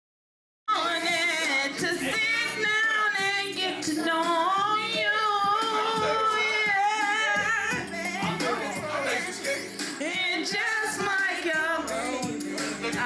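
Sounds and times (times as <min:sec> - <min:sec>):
woman singing over music: 0:00.7 - 0:13.0.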